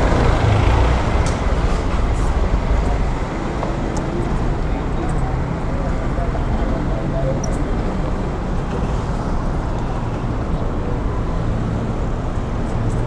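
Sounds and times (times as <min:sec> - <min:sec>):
scooter engine and road noise: 0:00.0 - 0:13.0.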